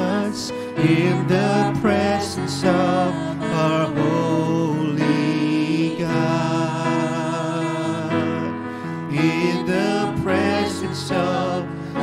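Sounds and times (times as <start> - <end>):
electric keyboard chords: 0.0 - 12.0
man singing into a microphone: 0.0 - 12.0.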